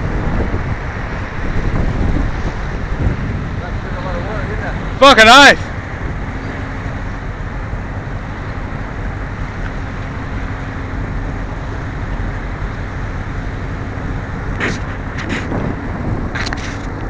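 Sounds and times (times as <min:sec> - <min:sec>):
rushing water wash: 0:00.0 - 0:17.0
ship engines low rumble: 0:00.0 - 0:17.0.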